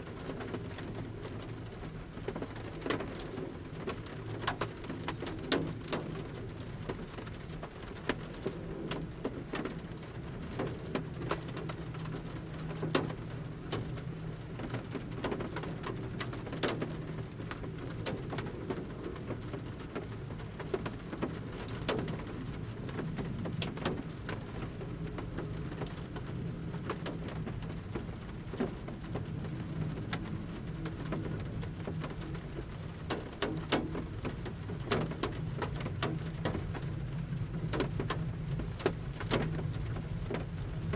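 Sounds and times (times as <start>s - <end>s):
low rain hiss: 0.0s - 40.9s
raindrops ticking on metal roof: 0.0s - 40.9s.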